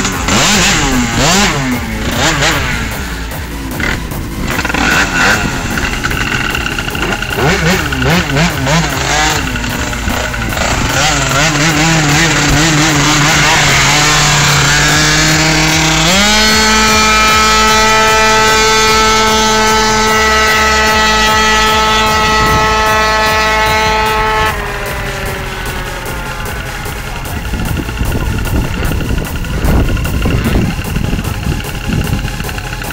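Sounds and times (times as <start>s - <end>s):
two-stroke scooter engine revving: 0.0s - 32.9s.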